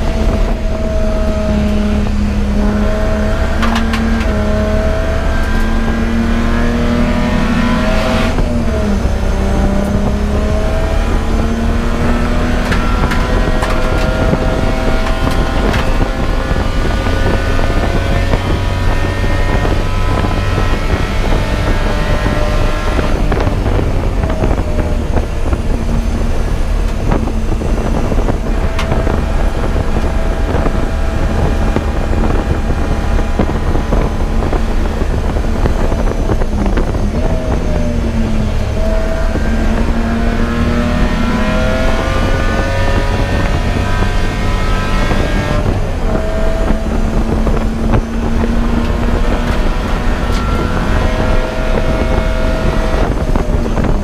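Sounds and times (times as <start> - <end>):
race car engine accelerating: 0.0 - 54.0
wind noise: 0.0 - 54.0.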